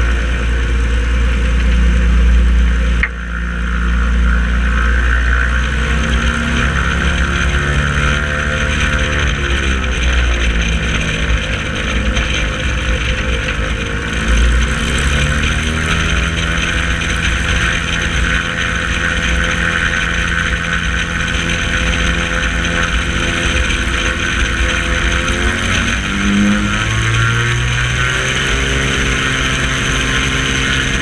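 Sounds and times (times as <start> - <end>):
propeller aircraft engine running: 0.0 - 31.0.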